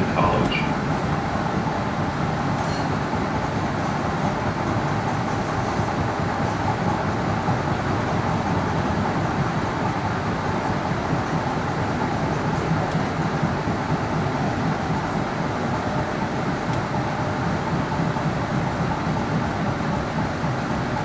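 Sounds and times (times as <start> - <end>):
rumble of wheels on track: 0.0 - 21.0.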